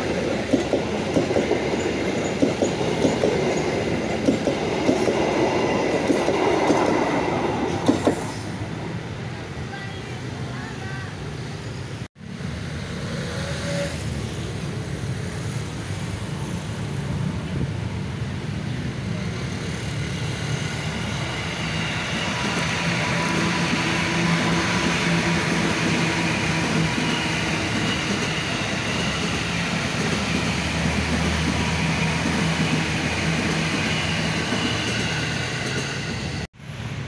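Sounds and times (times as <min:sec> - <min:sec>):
train wheels rumbling on rail: 0:00.0 - 0:08.8, 0:12.3 - 0:37.0.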